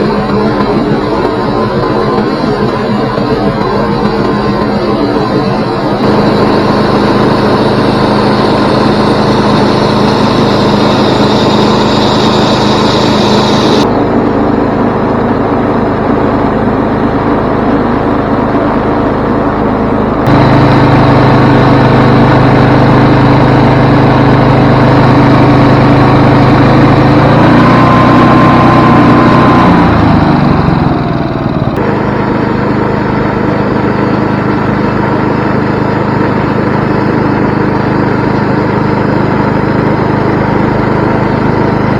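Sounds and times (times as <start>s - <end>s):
engine running: 0.0s - 41.9s
whine falling in pitch: 0.0s - 41.9s.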